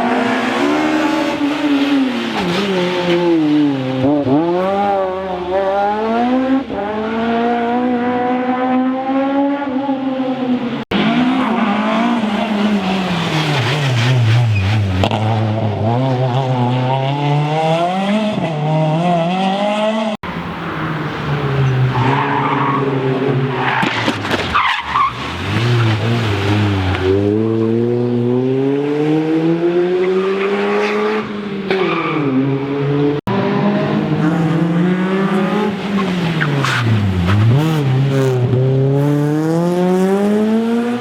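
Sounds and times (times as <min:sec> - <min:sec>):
rally car engine revving: 0:00.0 - 0:41.0.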